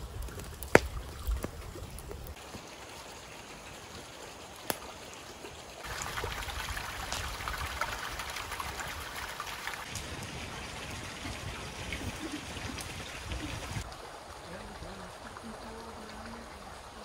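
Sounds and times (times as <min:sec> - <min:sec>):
creek water over rocks: 0:00.0 - 0:17.0.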